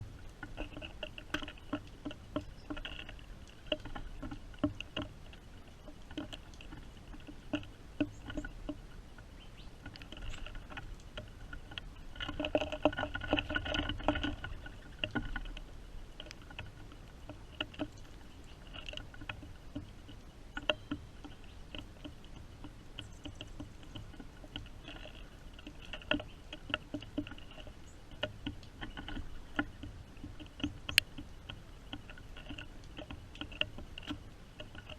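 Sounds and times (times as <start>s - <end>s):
rain dripping on hard surface: 0.0s - 34.9s.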